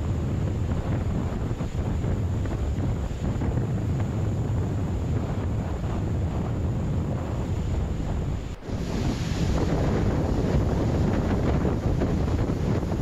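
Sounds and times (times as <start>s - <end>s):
waves splashing against seawall: 0.0s - 13.0s
wind buffeting microphone: 0.0s - 13.0s.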